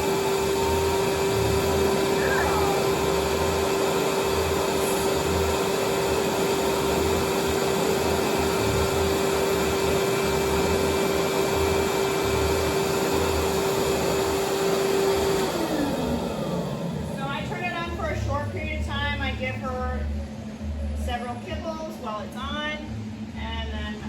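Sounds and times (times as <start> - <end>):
blow dryer motor whine and air rush: 0.0 - 24.0.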